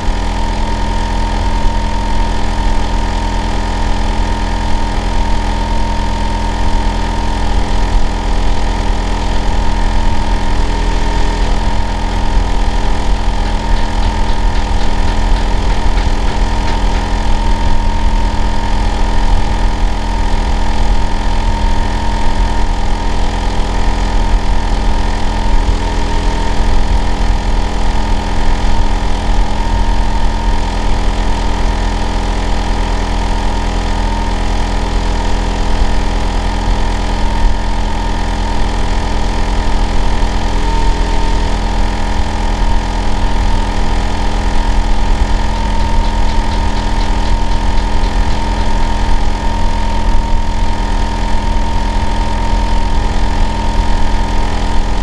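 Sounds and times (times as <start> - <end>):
air conditioner unit humming: 0.0 - 55.0
constant whine: 0.0 - 55.0.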